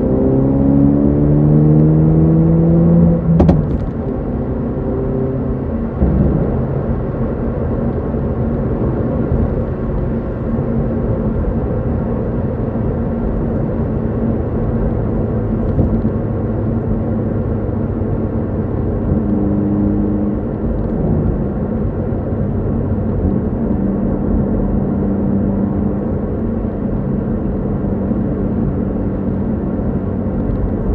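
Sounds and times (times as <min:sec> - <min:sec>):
car engine and exhaust at speed: 0:00.0 - 0:30.9
road rumble: 0:00.0 - 0:30.9.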